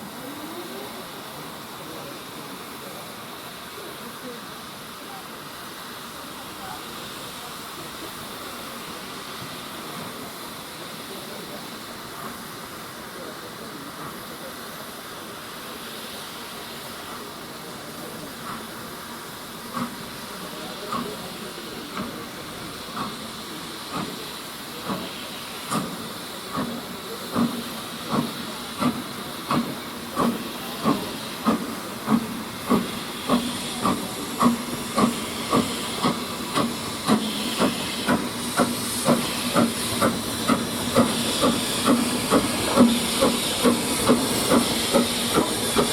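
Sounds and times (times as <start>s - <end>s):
steam hissing: 0.0s - 45.9s
steam locomotive exhaust beats: 0.0s - 45.9s.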